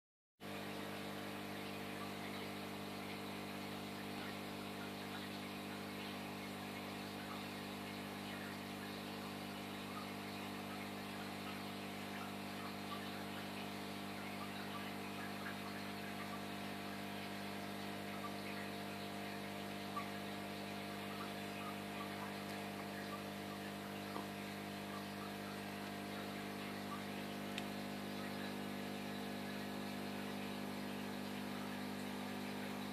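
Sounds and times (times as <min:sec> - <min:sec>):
aquarium aerator humming: 0:00.4 - 0:32.9.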